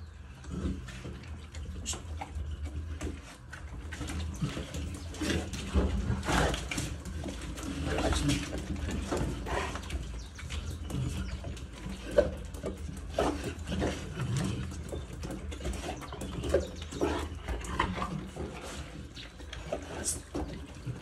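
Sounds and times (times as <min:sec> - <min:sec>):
dogs sniffing: 0:00.2 - 0:21.0.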